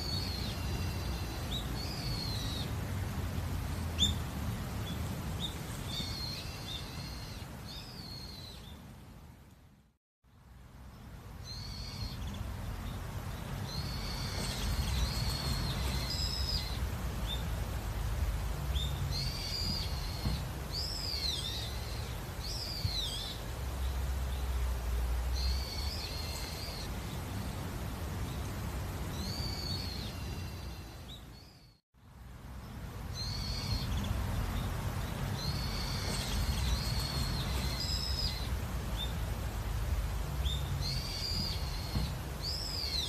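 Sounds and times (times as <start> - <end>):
birds chirping: 0.0 - 31.8, 32.5 - 43.0
steady low rumble: 0.0 - 42.7.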